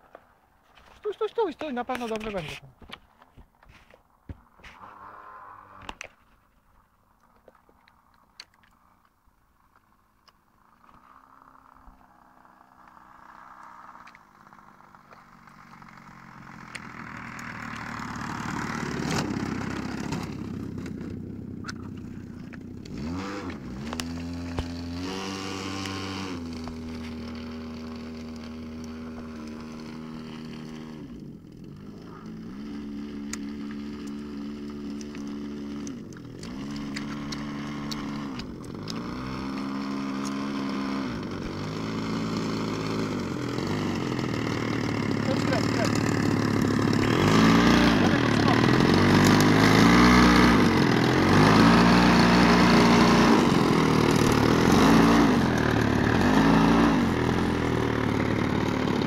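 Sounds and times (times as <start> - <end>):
model plane engine: 4.6 - 59.0.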